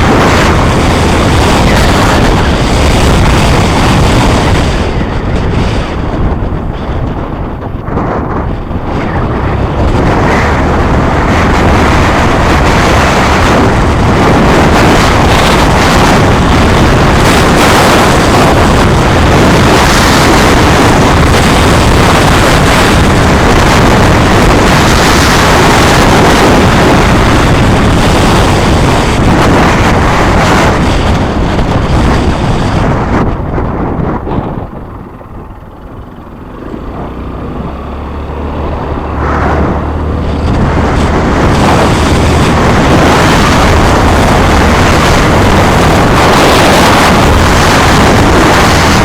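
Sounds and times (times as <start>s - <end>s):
low rumble: 0.0s - 49.0s
wind buffeting microphone: 0.0s - 49.0s.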